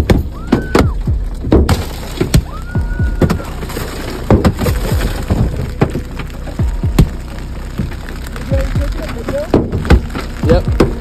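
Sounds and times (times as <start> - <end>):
glass breaking: 0.0 - 11.0
hailstones hitting a car: 0.0 - 11.0.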